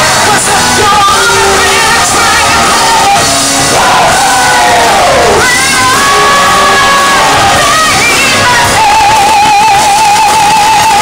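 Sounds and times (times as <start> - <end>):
woman singing show tune: 0.0 - 3.4, 4.3 - 11.0
ensemble voices: 0.0 - 9.5
band playing: 0.0 - 11.0.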